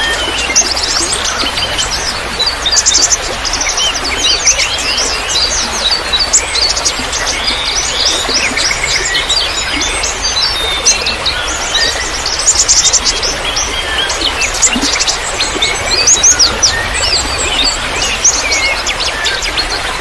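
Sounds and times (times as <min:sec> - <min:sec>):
songbirds chirping: 0:00.0 - 0:20.0
trickling water hiss: 0:00.0 - 0:20.0.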